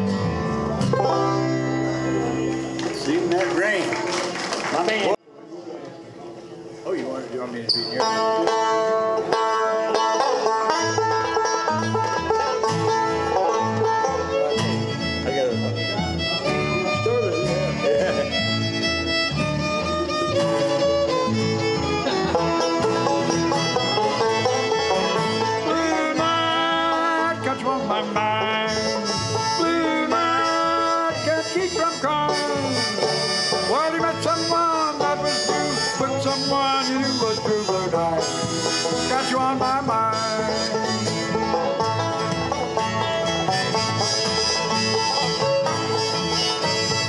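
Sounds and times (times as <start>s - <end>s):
bowed fiddle melody: 0.0s - 4.0s, 7.4s - 47.0s
strummed acoustic guitars: 0.0s - 4.7s, 7.9s - 47.0s
picked banjo: 0.0s - 47.0s.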